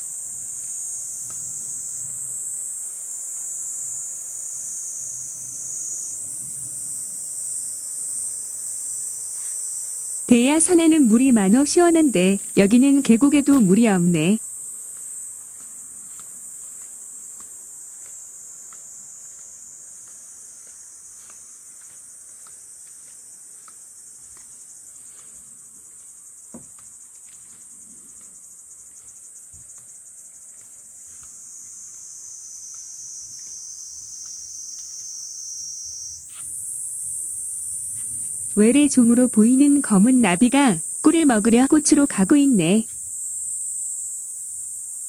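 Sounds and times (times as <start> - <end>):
insect chorus drone: 0.0 - 45.0.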